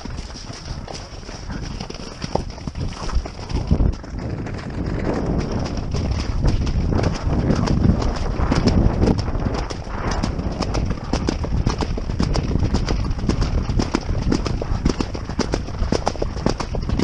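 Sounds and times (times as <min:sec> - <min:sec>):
horse hoofbeats on turf: 0:00.0 - 0:17.0
wind on microphone: 0:00.0 - 0:17.0.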